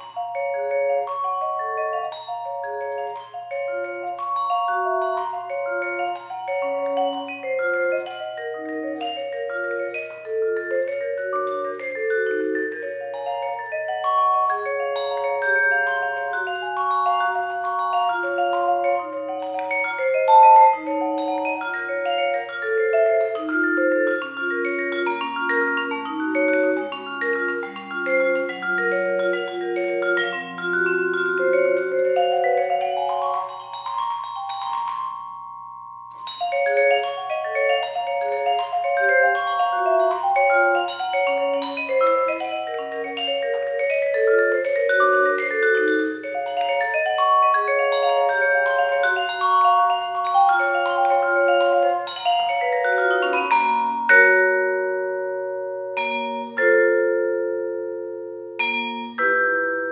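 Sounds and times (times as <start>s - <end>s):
vibraphone played with mallets: 0.0s - 59.9s.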